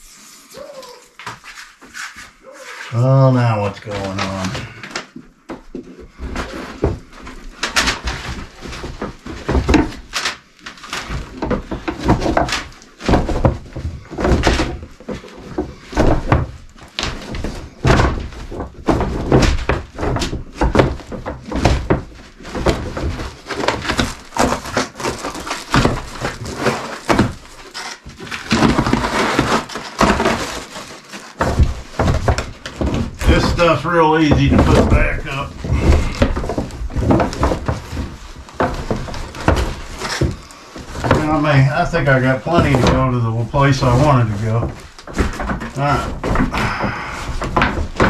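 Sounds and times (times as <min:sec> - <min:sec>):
knocks on wooden framing: 0:05.5 - 0:10.1, 0:11.0 - 0:30.6, 0:31.4 - 0:48.0
foil insulation crinkling: 0:06.4 - 0:48.0.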